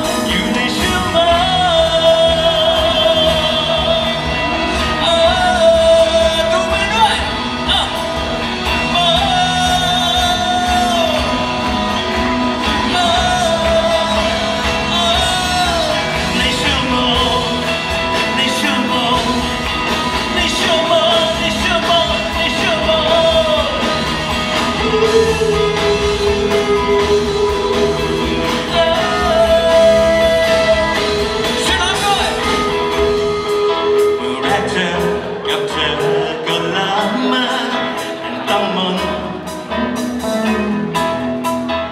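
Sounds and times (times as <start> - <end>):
singer holding long gliding notes: 0.0 - 39.5
live band playing: 0.0 - 41.9.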